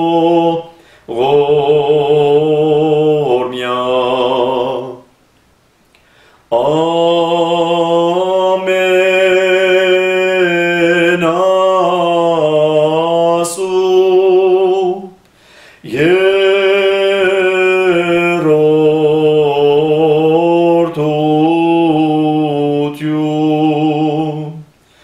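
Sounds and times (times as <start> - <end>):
man singing unaccompanied: 0.0 - 5.2, 6.4 - 15.2, 15.8 - 24.8.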